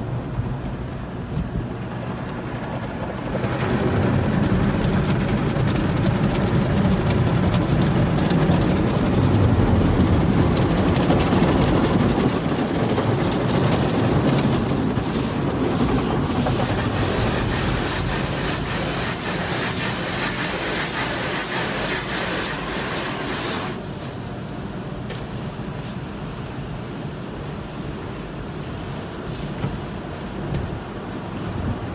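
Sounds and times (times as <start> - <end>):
car wash rumbling and hissing: 0.0 - 31.9.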